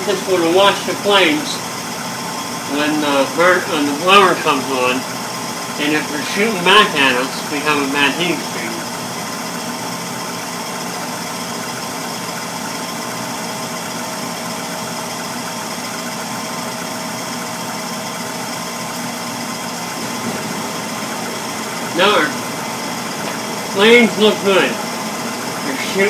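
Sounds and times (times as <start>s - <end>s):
gas furnace burners rushing: 0.0s - 26.0s.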